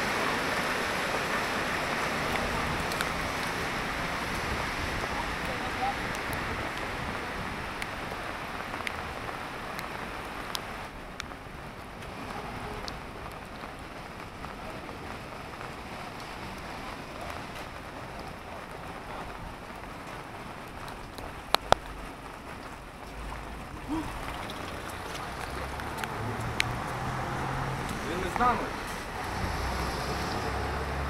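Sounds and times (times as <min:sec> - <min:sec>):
rain on pavement: 0:00.0 - 0:31.0.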